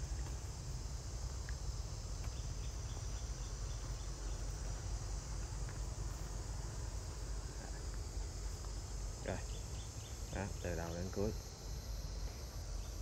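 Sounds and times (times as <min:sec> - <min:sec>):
insects buzzing high-pitched: 0:00.0 - 0:13.0.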